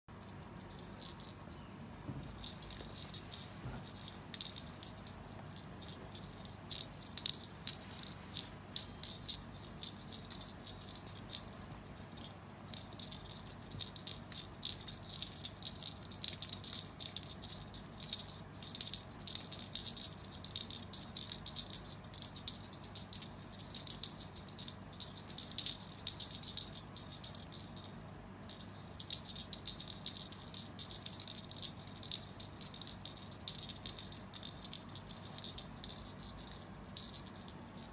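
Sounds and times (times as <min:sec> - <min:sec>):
metal jingling rattle: 0:00.1 - 0:37.9.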